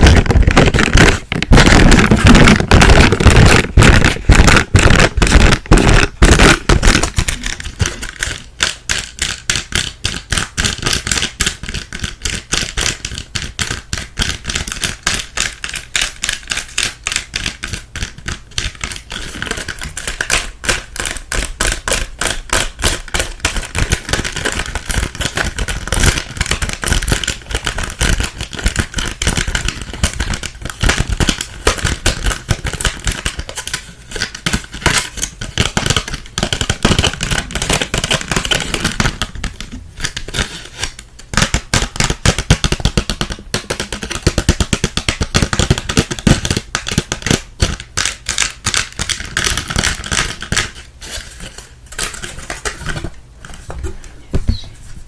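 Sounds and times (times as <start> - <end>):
tapping and clicking on small objects: 0.0 - 50.8.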